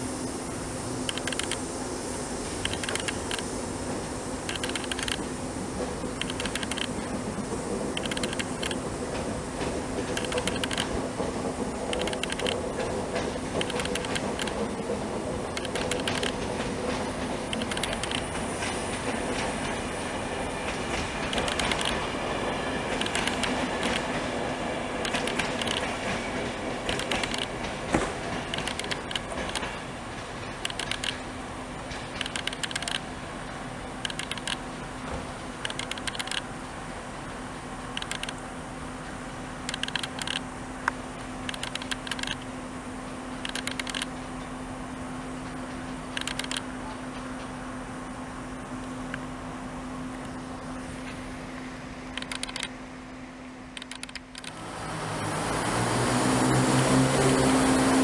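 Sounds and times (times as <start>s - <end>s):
train wheels rumbling: 0.0s - 58.0s
wheels clicking over rail joints: 1.0s - 1.6s, 2.4s - 44.6s, 45.2s - 47.7s, 50.1s - 52.8s, 53.6s - 58.0s.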